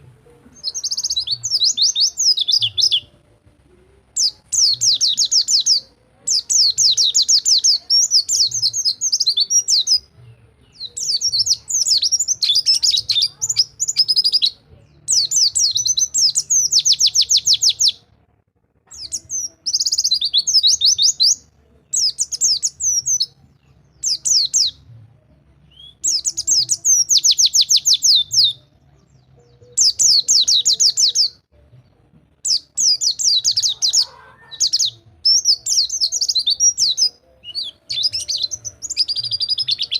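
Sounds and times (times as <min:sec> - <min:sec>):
bird singing rolling trills: 0:00.0 - 0:18.2, 0:18.8 - 0:39.9.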